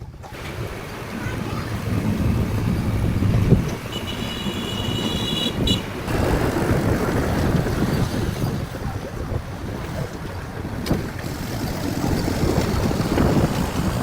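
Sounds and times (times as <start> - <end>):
jet ski running on water: 0.0 - 14.0
wind on microphone: 0.0 - 14.0.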